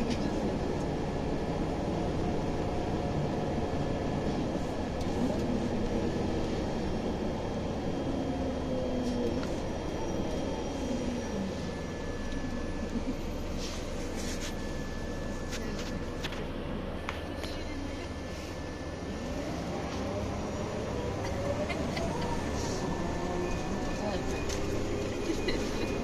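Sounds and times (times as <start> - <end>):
bus engine running inside cabin: 0.0 - 26.0.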